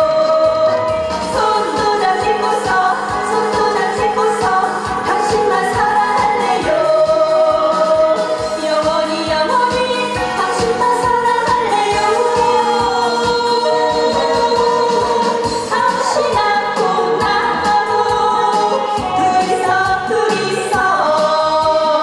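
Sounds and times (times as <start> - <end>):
backing track with drum beat: 0.0 - 22.0
woman singing: 0.0 - 22.0.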